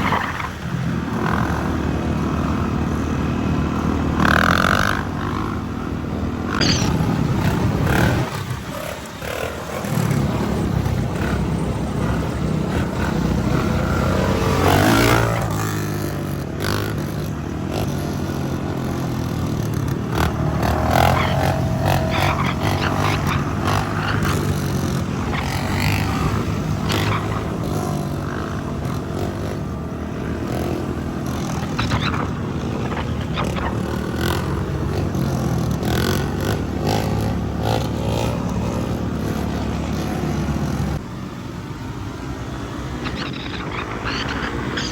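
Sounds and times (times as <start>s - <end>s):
dirt bike engines revving: 0.0s - 44.9s.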